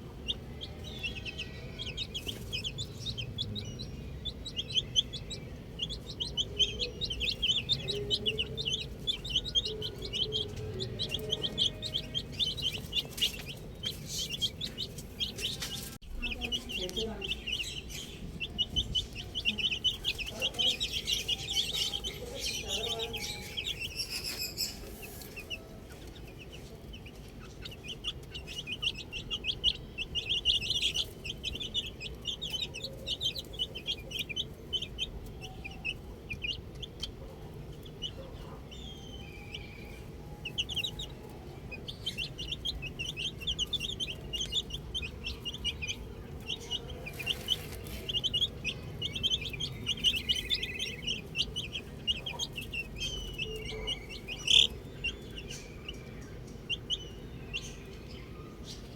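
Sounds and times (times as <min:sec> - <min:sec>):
baby chicks peeping: 0:00.0 - 0:58.9.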